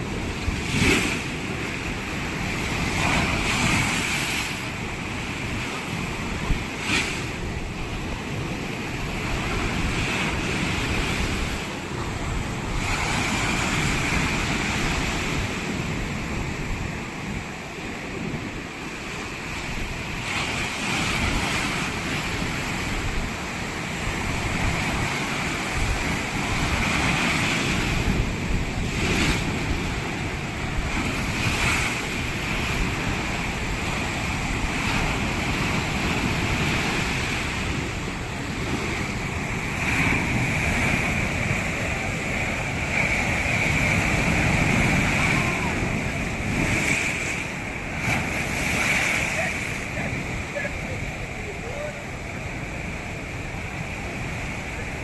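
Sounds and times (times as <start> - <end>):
ocean surf breaking on beach: 0.0 - 55.0
wind rumbling on microphone: 0.0 - 55.0.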